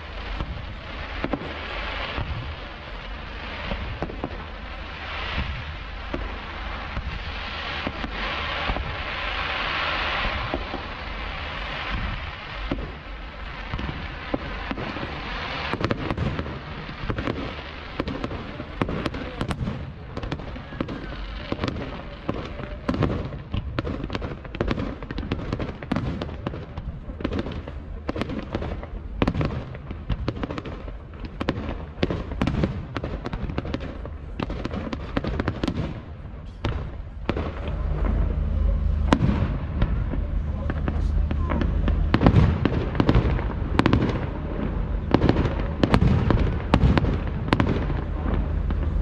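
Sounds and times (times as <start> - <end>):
fireworks banging and crackling: 0.0 - 49.0
fireworks hissing: 0.0 - 49.0.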